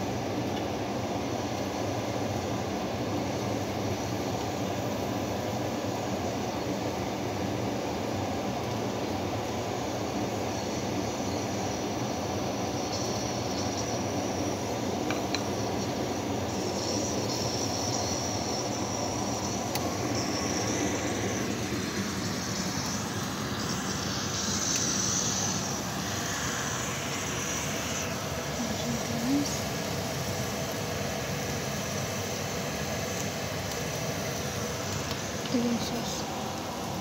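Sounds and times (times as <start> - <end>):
meat sizzling on a grill: 0.0 - 37.0.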